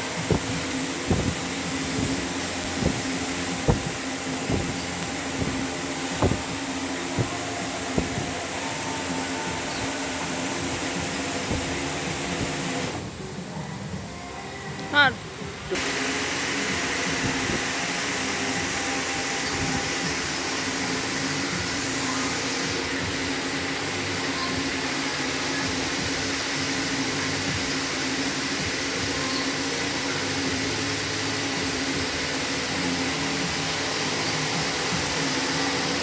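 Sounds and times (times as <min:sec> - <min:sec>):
knitting machine whir and hiss: 0:00.0 - 0:36.0.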